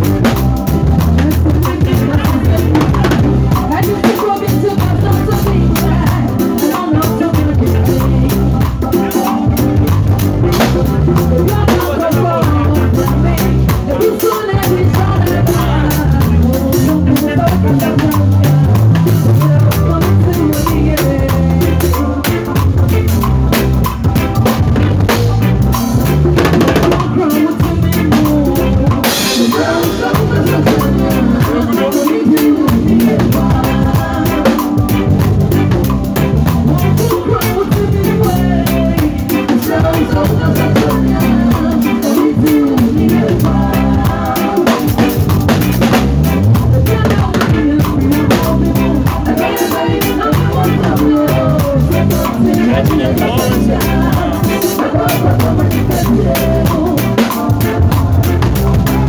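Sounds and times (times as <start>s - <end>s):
bass line: 0.0s - 59.0s
drum kit groove: 0.0s - 59.0s
gospel band playing: 0.0s - 59.0s.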